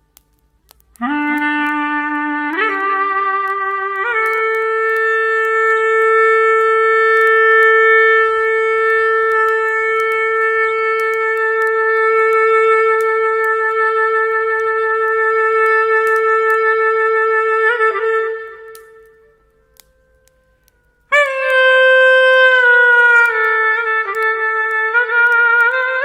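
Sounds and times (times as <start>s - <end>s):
faint clicks: 0.0s - 16.7s, 18.4s - 21.6s, 22.2s - 26.0s
clarinet holding a long note: 0.9s - 19.5s, 21.1s - 26.0s.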